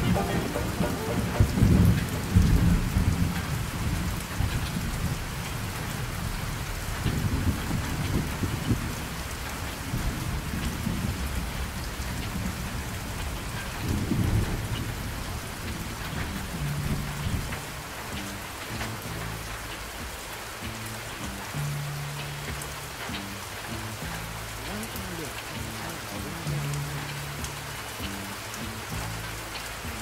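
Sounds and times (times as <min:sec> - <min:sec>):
low steady drone: 0:00.0 - 0:07.5, 0:10.2 - 0:30.0
low rumbles: 0:00.0 - 0:30.0
rain-like hiss: 0:00.0 - 0:30.0.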